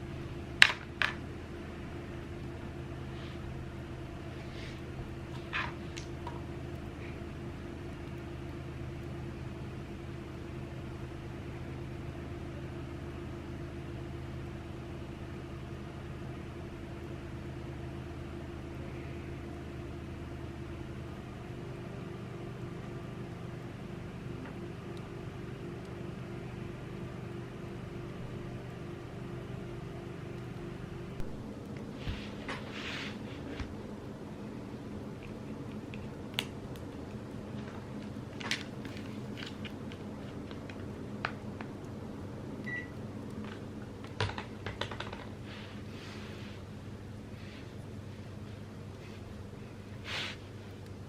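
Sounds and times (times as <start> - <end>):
low machine hum: 0.0 - 51.0.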